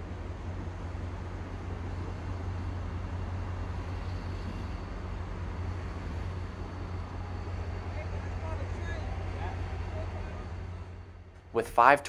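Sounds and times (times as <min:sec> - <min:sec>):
highway traffic rushing: 0:00.0 - 0:11.9
diesel locomotive drone: 0:00.0 - 0:12.0.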